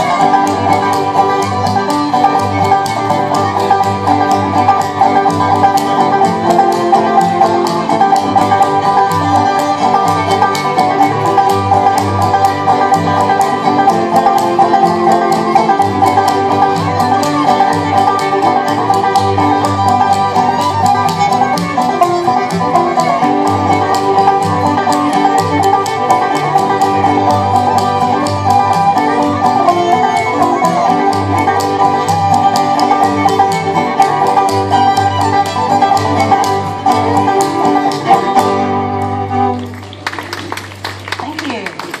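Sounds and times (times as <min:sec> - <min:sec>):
bluegrass band playing: 0:00.0 - 0:42.0.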